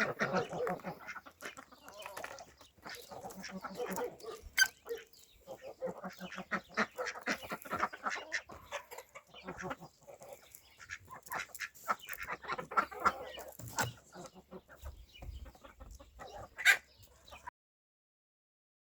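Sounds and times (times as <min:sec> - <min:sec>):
chickens clucking: 0:00.0 - 0:17.5.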